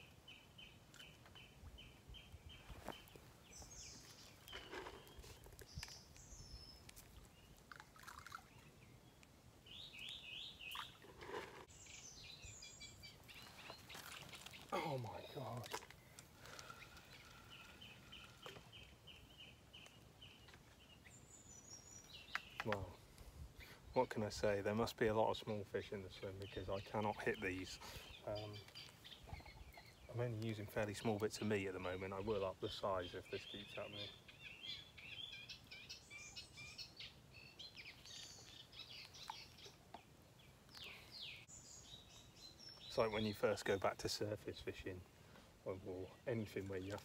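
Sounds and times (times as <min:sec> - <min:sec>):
faint birdsong chirps: 0:00.0 - 0:47.0.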